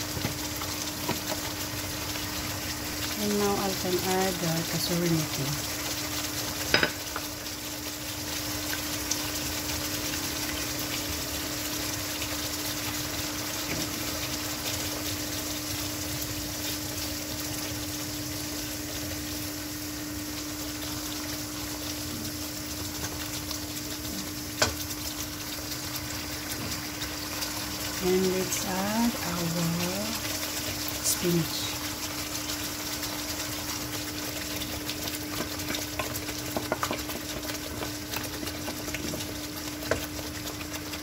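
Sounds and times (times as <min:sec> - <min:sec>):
food sizzling in pan: 0:00.0 - 0:41.0.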